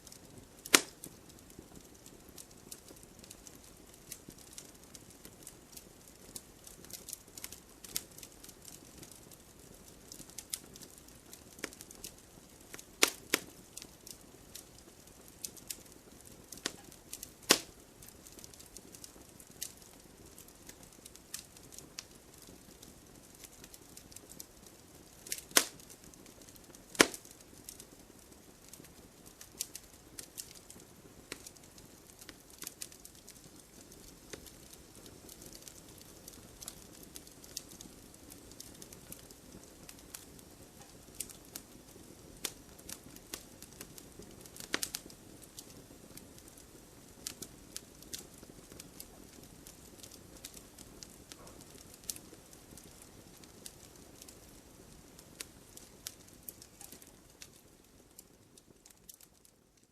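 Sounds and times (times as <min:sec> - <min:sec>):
campfire wood crackling: 0:00.0 - 0:59.9
sharp fire pops: 0:00.1 - 0:24.4, 0:25.1 - 0:57.8.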